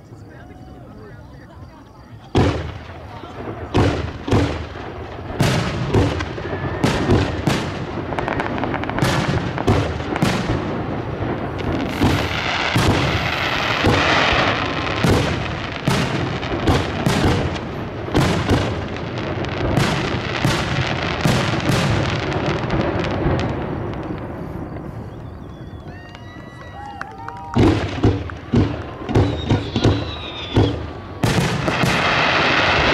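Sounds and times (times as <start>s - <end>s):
fireworks bursting with sharp bangs: 0.0s - 32.9s.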